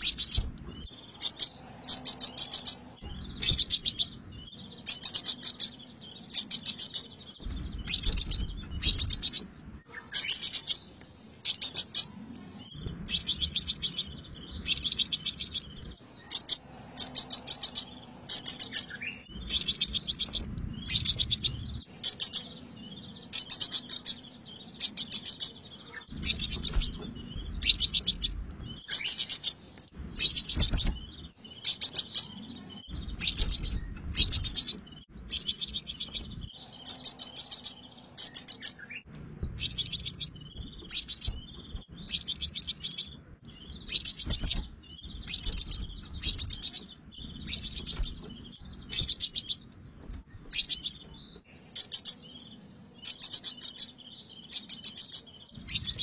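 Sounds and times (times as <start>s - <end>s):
thin high chirps: 0.0s - 9.6s, 11.5s - 52.5s
bird trilling: 0.0s - 56.0s.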